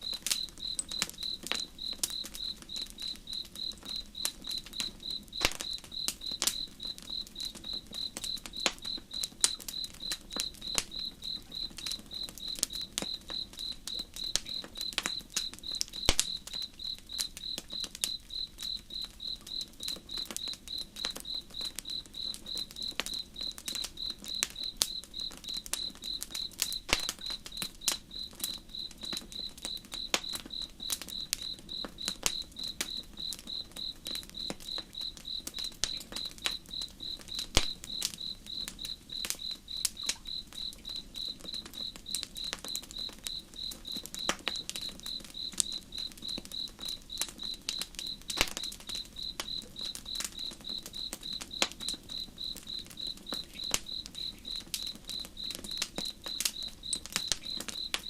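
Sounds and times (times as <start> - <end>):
campfire crackling and popping: 0.0 - 58.0
crickets chirping: 0.0 - 58.0.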